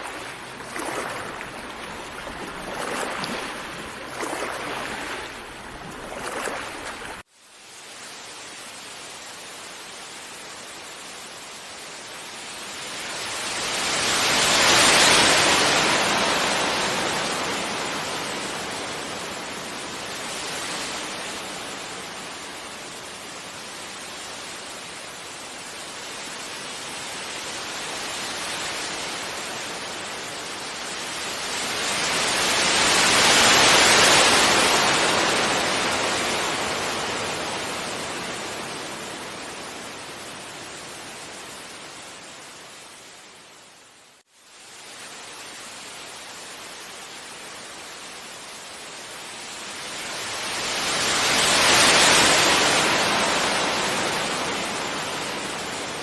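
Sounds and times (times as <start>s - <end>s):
ocean waves washing onto beach: 0.0s - 56.0s.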